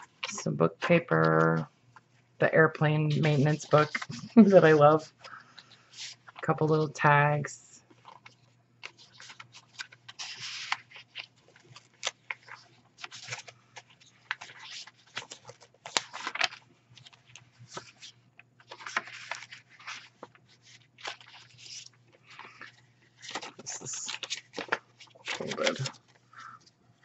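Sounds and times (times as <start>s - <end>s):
paper pages rustling: 0.0s - 7.0s, 7.8s - 27.0s.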